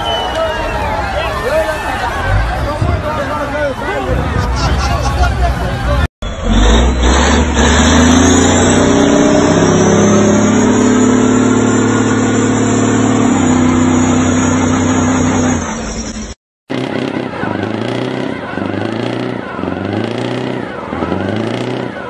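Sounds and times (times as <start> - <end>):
diesel truck engine revving: 0.1 - 22.0.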